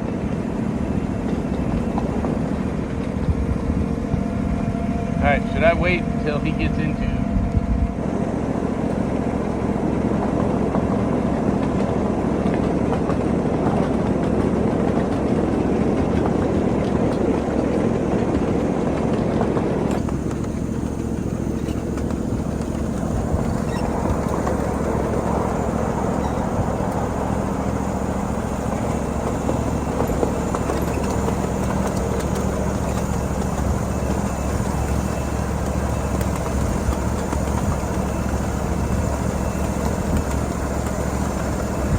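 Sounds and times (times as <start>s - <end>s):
miniature train locomotive drone: 0.0s - 41.9s.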